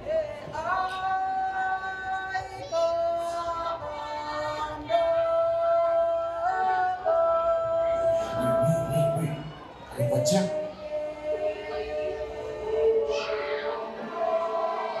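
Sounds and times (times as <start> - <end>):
high voice singing slow melody: 0.0 - 9.6, 10.5 - 15.0.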